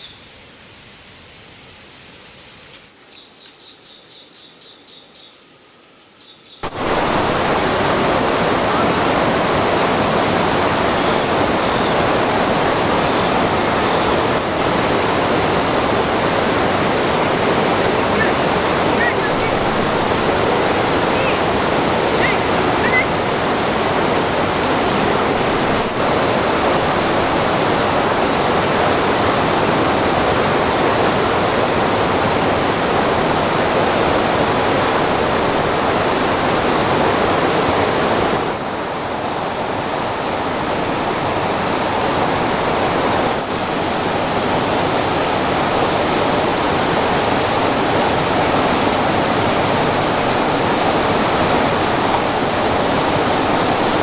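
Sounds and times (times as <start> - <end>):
stream water rushing: 6.6 - 54.0.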